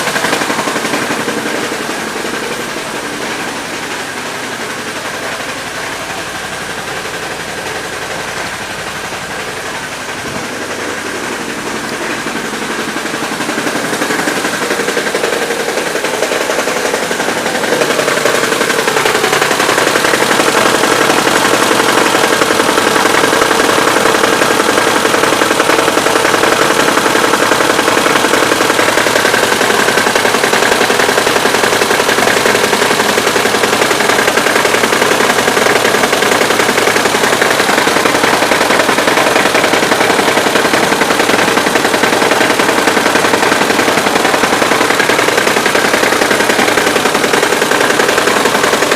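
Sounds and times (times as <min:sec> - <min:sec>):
car engine knocking: 0:00.0 - 0:48.9.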